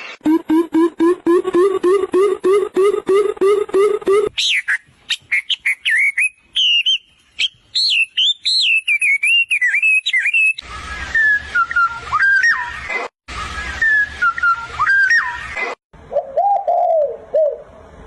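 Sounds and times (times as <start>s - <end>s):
bird chirping and whistling: 0.3s - 17.6s.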